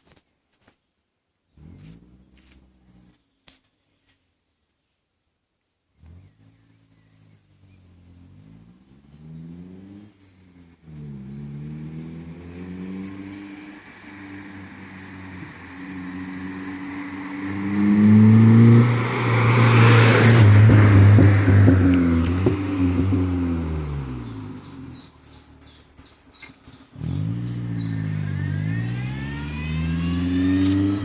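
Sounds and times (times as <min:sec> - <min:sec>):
car engine revving: 0:01.5 - 0:03.2, 0:06.0 - 0:31.0.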